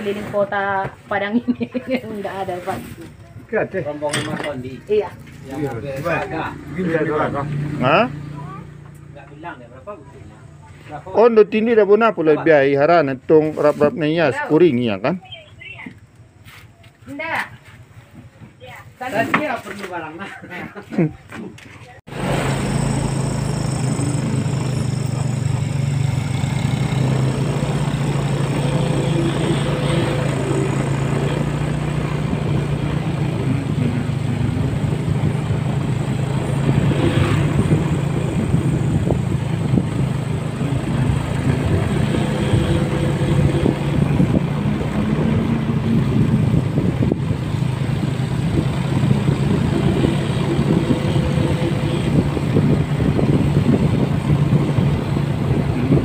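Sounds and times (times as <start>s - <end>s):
motorcycle engine cruising: 0.0s - 19.5s, 22.0s - 56.0s
wind and road noise: 0.0s - 56.0s.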